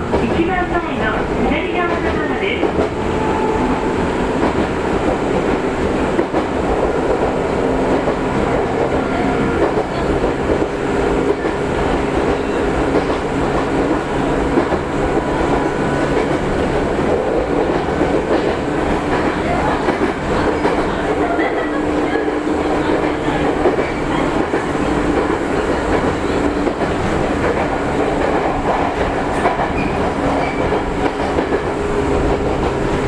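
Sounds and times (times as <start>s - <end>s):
train wheels running on rails: 0.0s - 33.0s.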